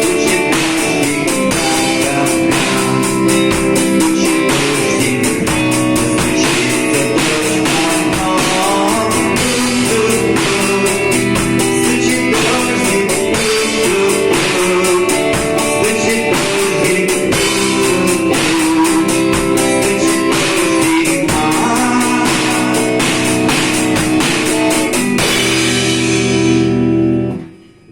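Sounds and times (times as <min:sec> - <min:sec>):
steady drum beat: 0:00.0 - 0:26.9
guitar playing: 0:00.0 - 0:27.9.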